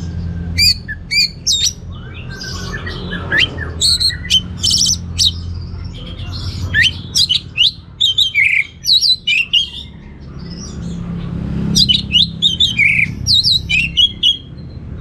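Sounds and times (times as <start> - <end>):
bird whistling song: 0.4 - 5.6, 6.3 - 10.8, 11.7 - 14.8.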